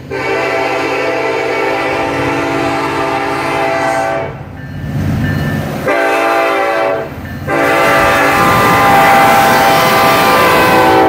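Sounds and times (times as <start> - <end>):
locomotive air horn blasts: 0.0 - 4.4, 5.8 - 11.0
locomotive engine rumbling: 0.0 - 11.0.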